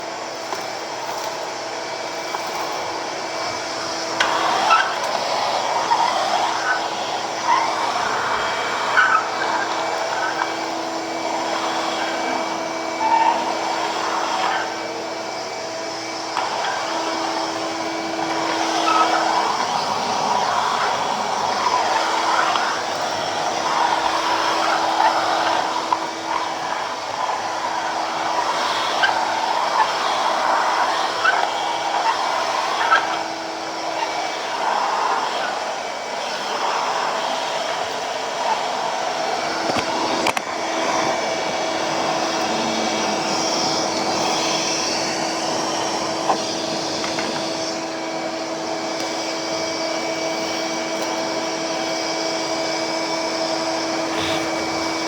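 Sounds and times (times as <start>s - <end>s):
motor whirring: 0.2s - 55.0s.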